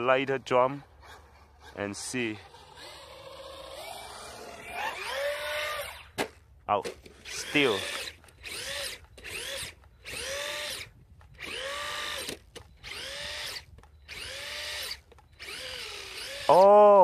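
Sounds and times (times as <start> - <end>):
electric motor whining: 0.9 - 6.2, 7.2 - 16.8.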